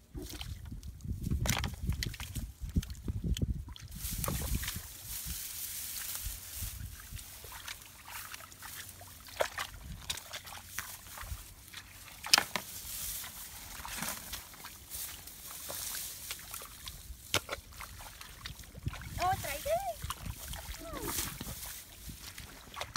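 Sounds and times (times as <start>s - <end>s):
muddy water sloshing and splashing: 0.0s - 22.9s.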